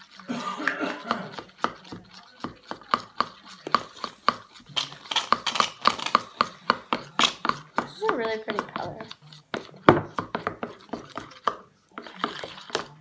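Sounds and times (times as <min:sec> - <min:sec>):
utensil tapping against bowl: 0:00.0 - 0:13.0.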